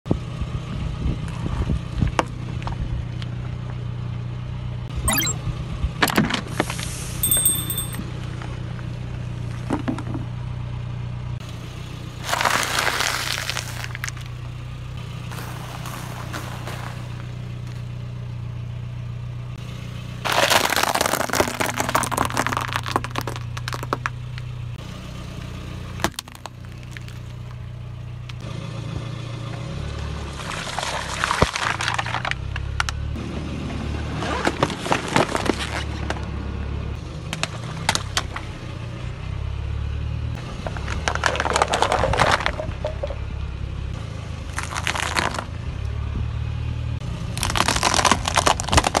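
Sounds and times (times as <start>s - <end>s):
low engine hum: 0.1s - 49.0s.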